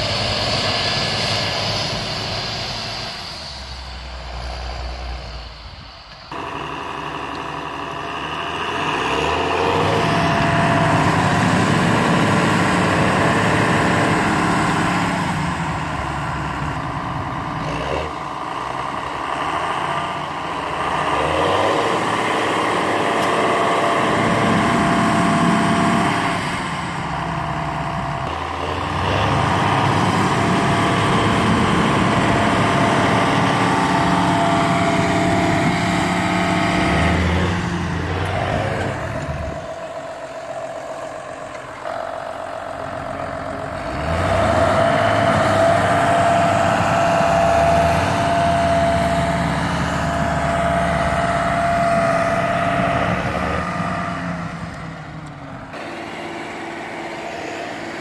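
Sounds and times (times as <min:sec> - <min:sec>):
diesel tractor engines under load: 0:00.0 - 0:58.0.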